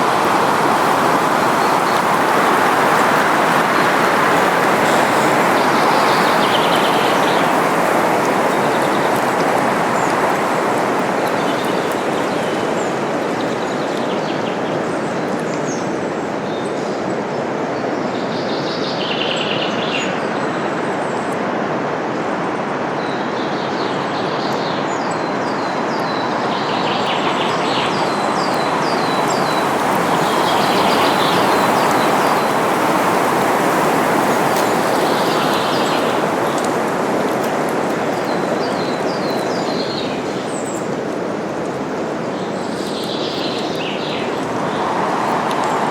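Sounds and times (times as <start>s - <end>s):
songbirds chirping: 0.0s - 21.0s, 23.0s - 45.9s
wind rustling leaves: 0.0s - 45.9s.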